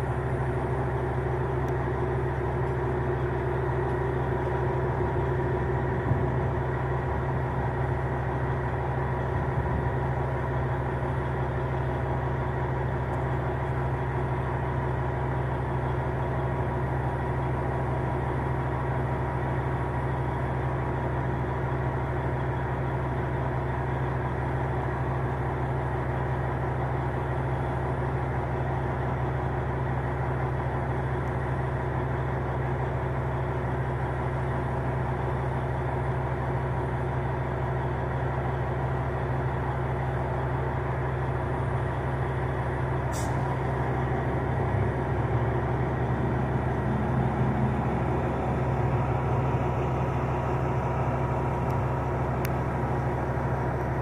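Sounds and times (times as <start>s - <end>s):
heavy truck engine idling: 0.0s - 54.0s.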